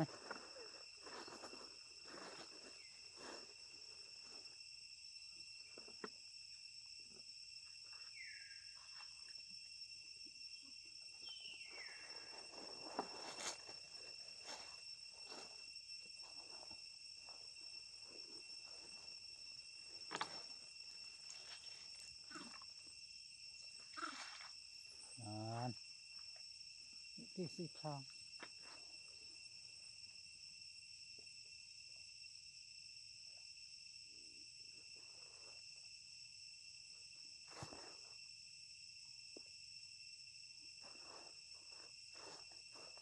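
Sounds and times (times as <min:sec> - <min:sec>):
insect chorus buzzing: 0:00.0 - 0:43.0.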